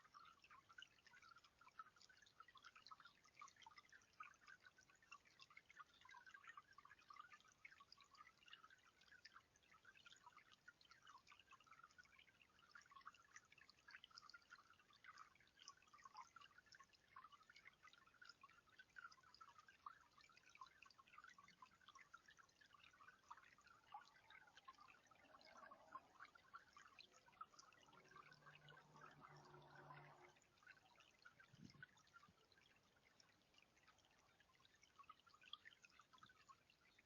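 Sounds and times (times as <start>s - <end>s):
water trickling and dripping: 0.0s - 37.0s.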